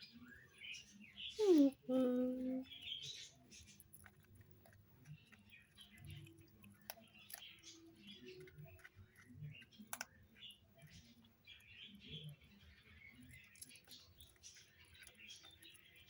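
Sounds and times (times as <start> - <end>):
kittens chewing and smacking: 1.4 - 16.0.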